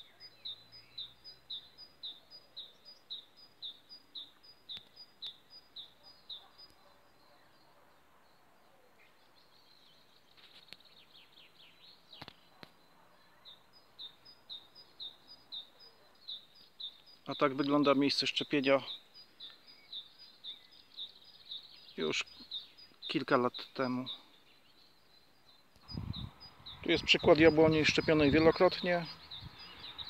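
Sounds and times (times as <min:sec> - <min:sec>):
songbird high chirps: 0:00.0 - 0:30.0.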